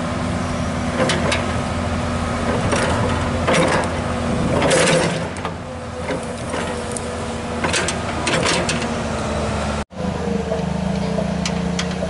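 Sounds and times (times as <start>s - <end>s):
excavator engine whine: 0.0s - 12.0s.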